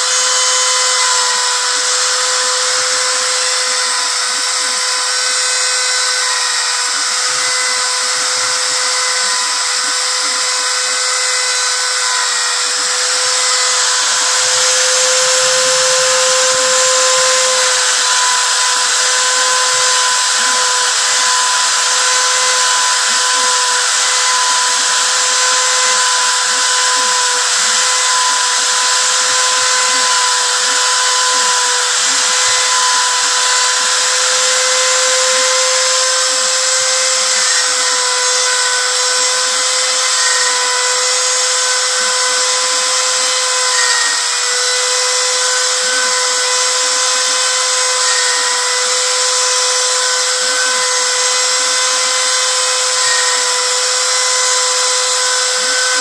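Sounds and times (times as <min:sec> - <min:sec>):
hiss of cutting: 0:00.0 - 0:56.0
router spindle motor whine: 0:00.0 - 0:56.0.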